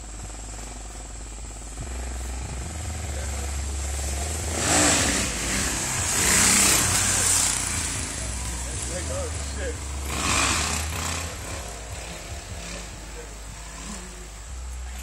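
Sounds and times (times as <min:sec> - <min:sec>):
dirt bike engine passing: 0:00.0 - 0:15.0.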